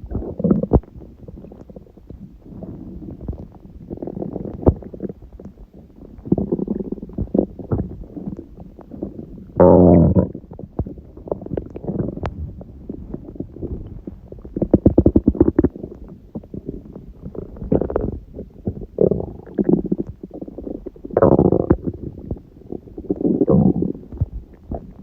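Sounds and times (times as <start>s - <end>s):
stomach growling and gurgling: 0.0s - 25.0s.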